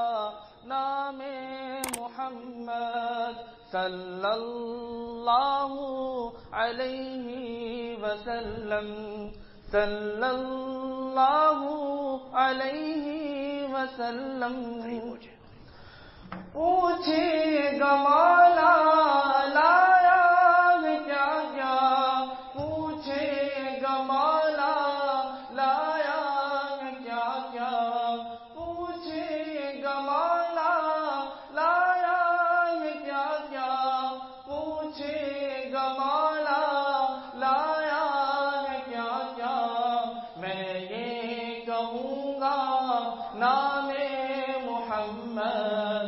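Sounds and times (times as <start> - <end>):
person singing devotional song: 0.0 - 15.4, 16.3 - 46.0.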